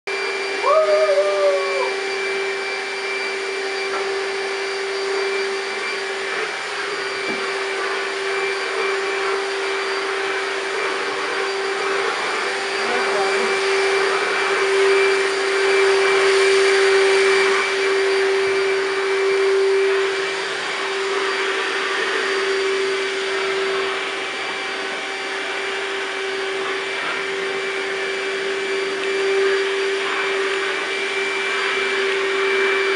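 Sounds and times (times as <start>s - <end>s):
vacuum cleaner running: 0.1s - 32.9s.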